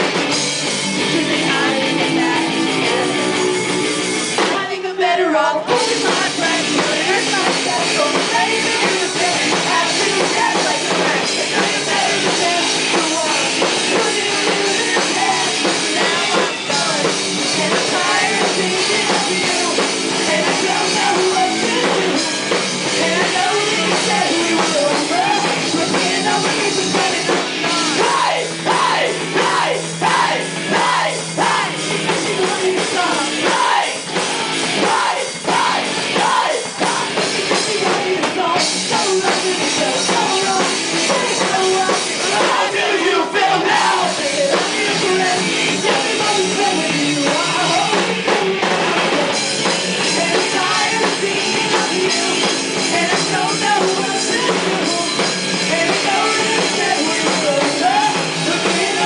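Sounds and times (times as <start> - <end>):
drum kit: 0.0 - 59.0
electric guitars: 0.0 - 59.0
person singing into microphone: 1.0 - 3.5, 4.4 - 59.0.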